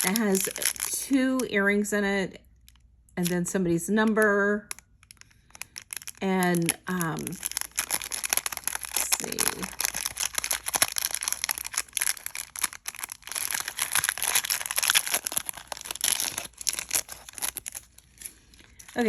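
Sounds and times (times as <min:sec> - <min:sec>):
packets crinkling and rustling: 0:00.0 - 0:01.4, 0:04.0 - 0:19.0.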